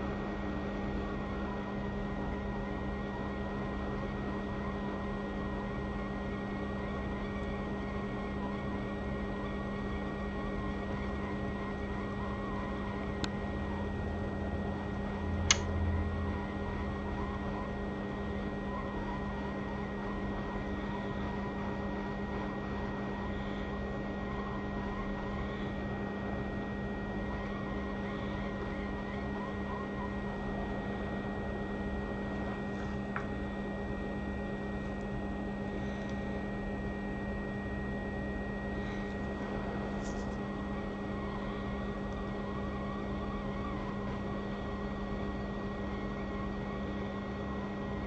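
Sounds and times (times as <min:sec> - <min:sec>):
hot air blower fan hum: 0:00.0 - 0:48.0.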